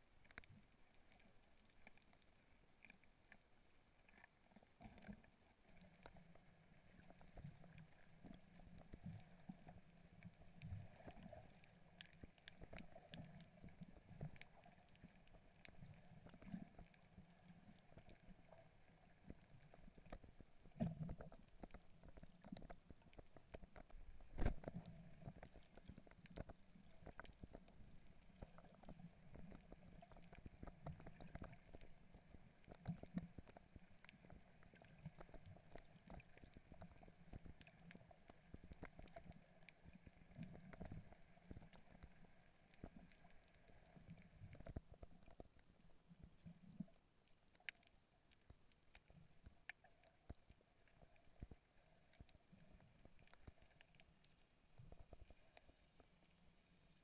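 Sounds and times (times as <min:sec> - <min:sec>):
muffled underwater rumble: 0:00.0 - 0:47.8.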